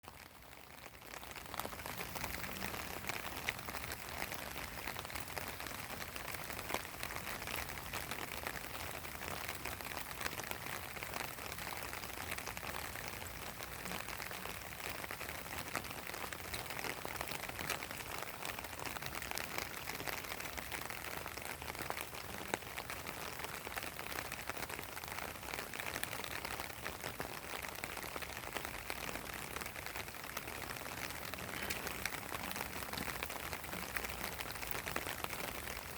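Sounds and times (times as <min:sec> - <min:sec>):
rain falling on pond: 0:00.0 - 0:35.9.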